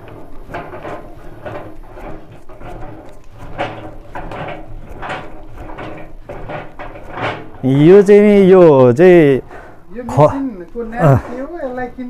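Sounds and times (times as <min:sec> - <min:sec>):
knocks and scraping of press: 0:00.0 - 0:09.8.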